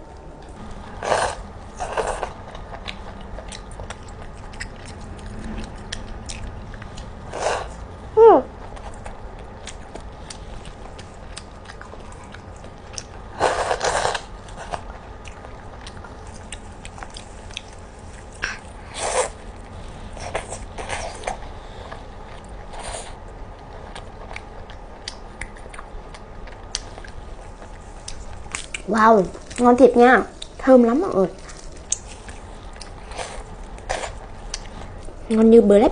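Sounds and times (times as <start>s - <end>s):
chewing with wet mouth clicks: 1.8s - 7.2s, 8.7s - 29.7s, 30.3s - 35.4s.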